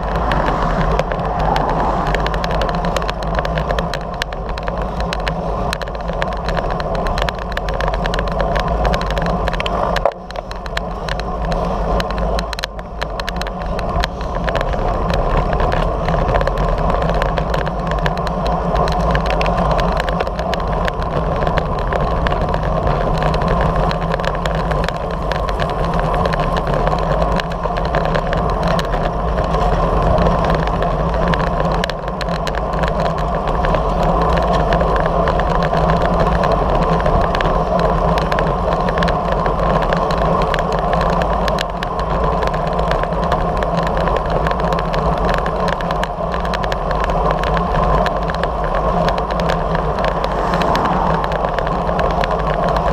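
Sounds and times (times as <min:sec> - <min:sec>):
road noise: 0:00.0 - 0:52.9
wind noise on microphone: 0:00.0 - 0:52.9.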